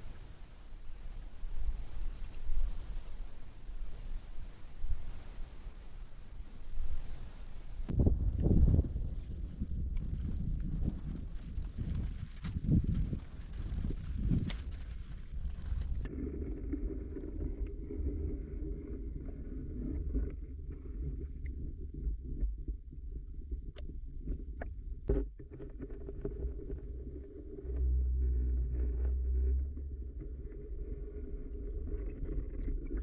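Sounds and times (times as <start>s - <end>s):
underwater rumble of moving water: 0.0s - 33.0s.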